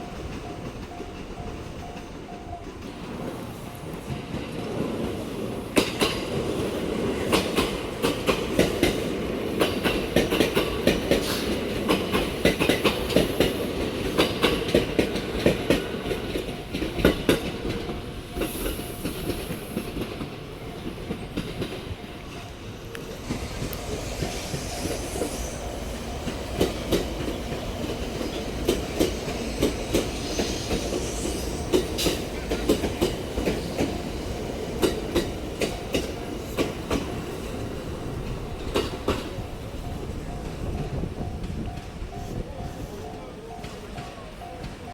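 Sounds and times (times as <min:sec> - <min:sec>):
train rumble: 0:00.0 - 0:44.9
train wheels clacking: 0:00.0 - 0:44.9.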